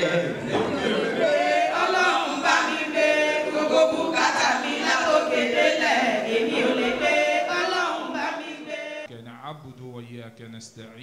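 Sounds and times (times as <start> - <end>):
group of voices singing: 0.0 - 9.1.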